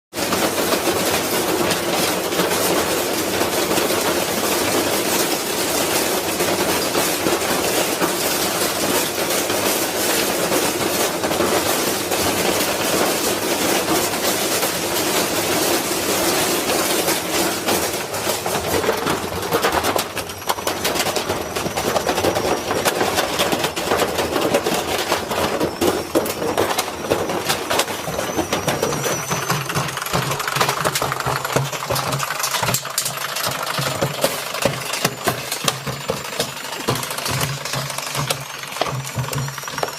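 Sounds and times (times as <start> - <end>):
washing machine spinning: 0.1 - 39.9
bricks clattering in drum: 0.2 - 39.9.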